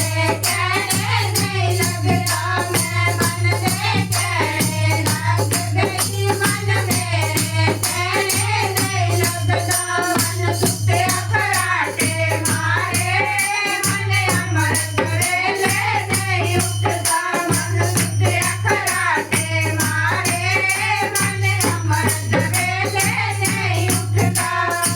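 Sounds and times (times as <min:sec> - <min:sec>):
group singing devotional song: 0:00.0 - 0:24.9
rattling hand percussion: 0:00.0 - 0:24.9.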